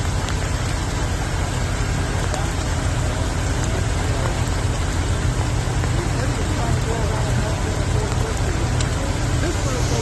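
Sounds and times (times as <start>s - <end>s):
steady rain: 0.0s - 10.0s
vehicle engine running: 0.0s - 10.0s.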